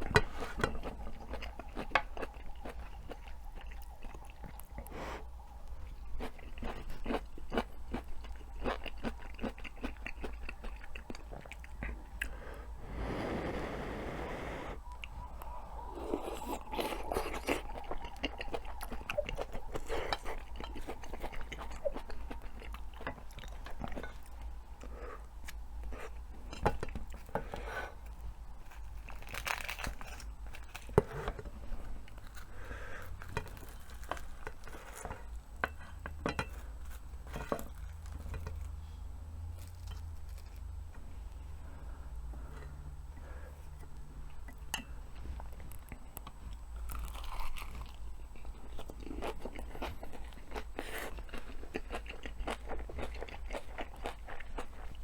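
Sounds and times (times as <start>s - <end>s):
chewing and crunching food: 0.0s - 13.2s, 14.8s - 55.0s.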